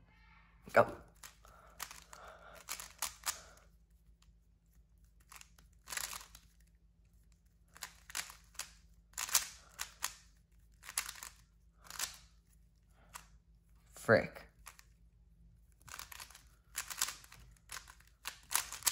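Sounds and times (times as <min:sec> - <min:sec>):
puzzle cube clicking turns: 0:01.0 - 0:04.3, 0:05.0 - 0:13.4, 0:14.5 - 0:15.0, 0:15.7 - 0:18.9.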